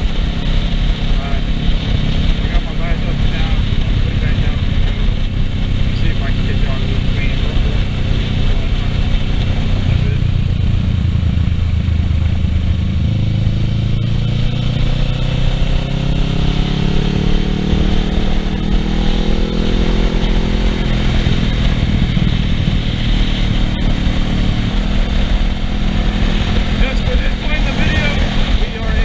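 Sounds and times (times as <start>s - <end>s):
motorcycle engine accelerating: 0.0s - 29.0s
wind and road noise: 0.0s - 29.0s.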